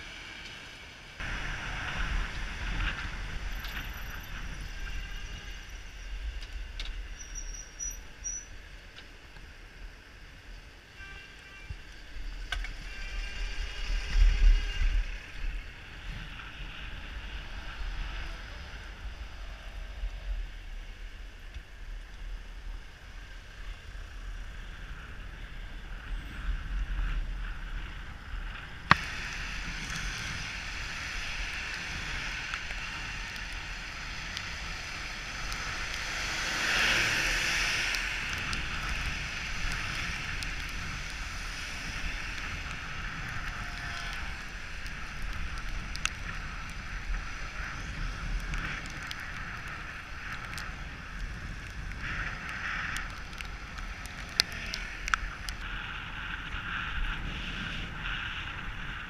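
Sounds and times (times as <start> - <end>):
wind rushing over microphone: 0.0 - 7.4, 11.7 - 59.0
traffic noise: 0.0 - 59.0.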